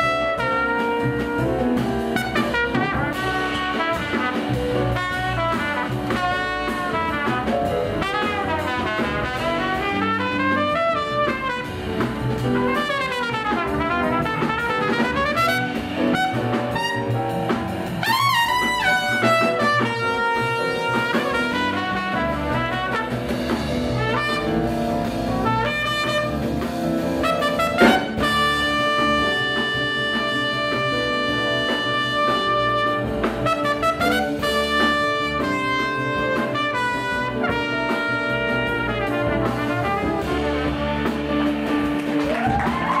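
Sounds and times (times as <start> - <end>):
jazz band playing: 0.0 - 43.0
sharp drum accent: 0.0 - 43.0
trumpet melody: 0.0 - 43.0.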